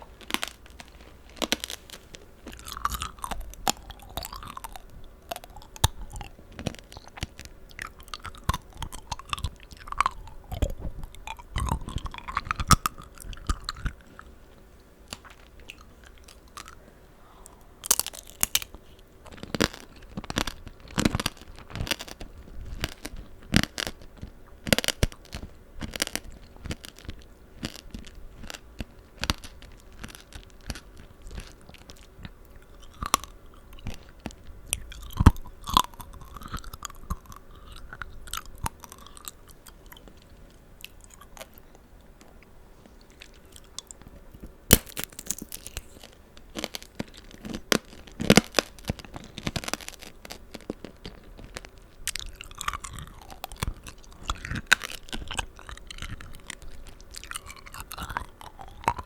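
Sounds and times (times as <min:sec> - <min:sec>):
crunchy candy chewing: 0:00.0 - 0:14.4, 0:15.1 - 0:16.8, 0:17.5 - 0:59.0.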